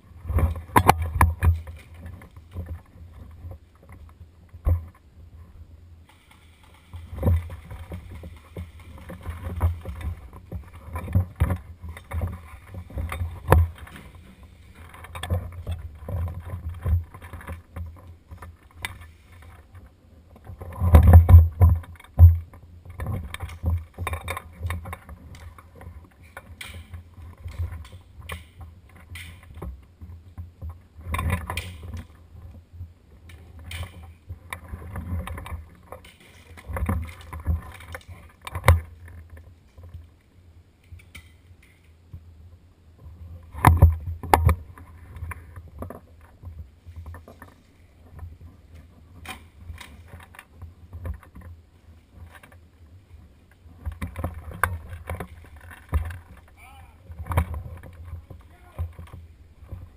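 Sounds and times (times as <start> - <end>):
rustling of movement: 0.0 - 59.9.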